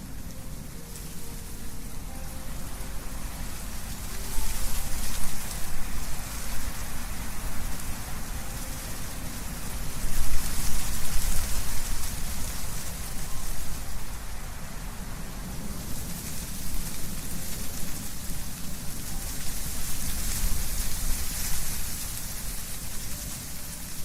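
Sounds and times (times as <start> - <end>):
low rumble of wind: 0.0 - 24.0
wind rustling leaves: 0.0 - 24.0.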